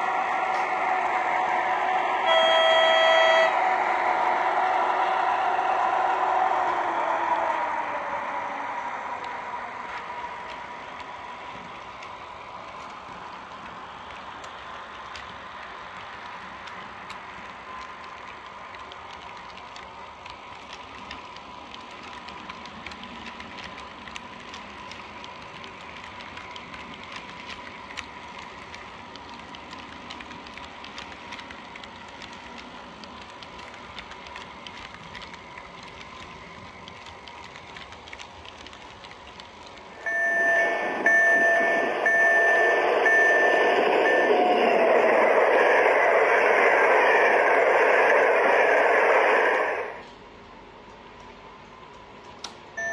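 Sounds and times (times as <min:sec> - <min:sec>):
wheels clicking on rails: 0:00.0 - 0:52.9.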